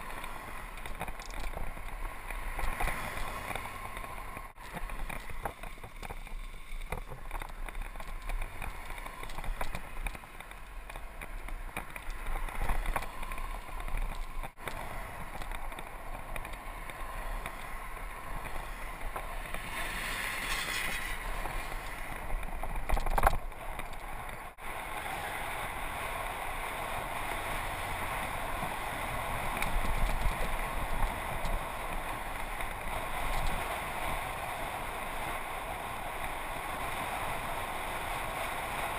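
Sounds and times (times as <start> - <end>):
bike tyre and wind noise: 0.0 - 38.9.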